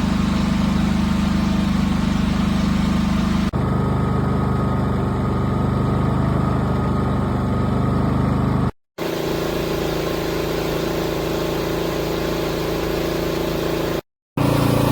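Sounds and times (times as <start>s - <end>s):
portable generator engine hum: 0.0s - 14.9s.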